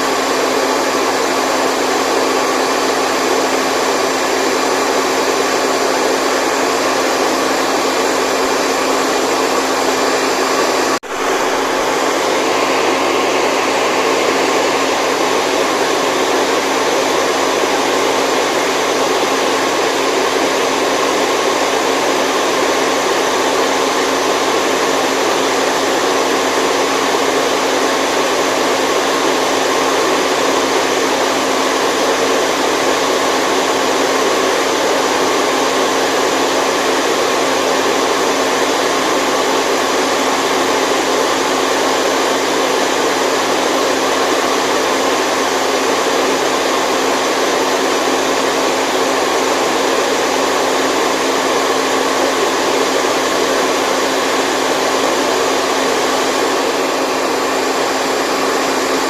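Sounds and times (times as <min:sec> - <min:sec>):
white noise: 0:00.0 - 0:59.0.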